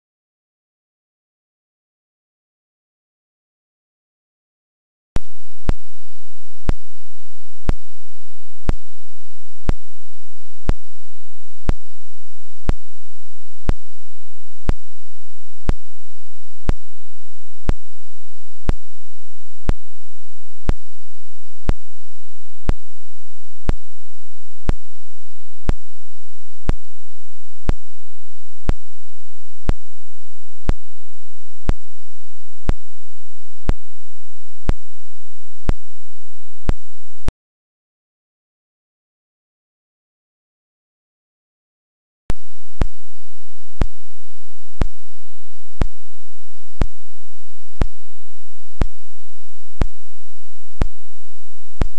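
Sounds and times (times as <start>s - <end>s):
faint steady hiss: 5.2s - 37.3s, 42.3s - 51.9s.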